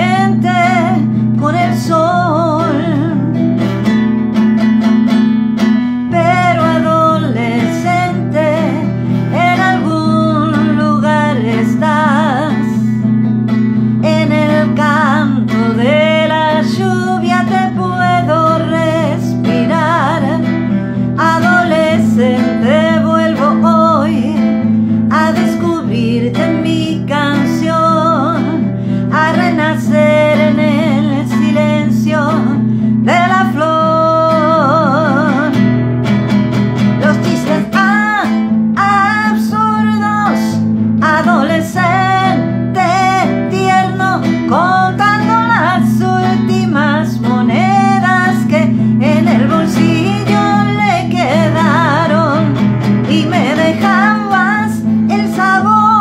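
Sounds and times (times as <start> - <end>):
acoustic guitar: 0.0 - 56.0
woman singing: 0.0 - 56.0.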